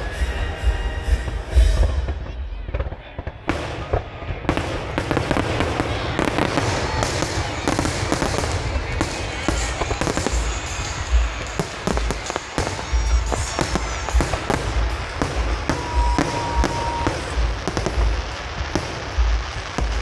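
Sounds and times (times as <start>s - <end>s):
fireworks crackling: 0.0s - 20.0s
fireworks booming: 0.1s - 20.0s.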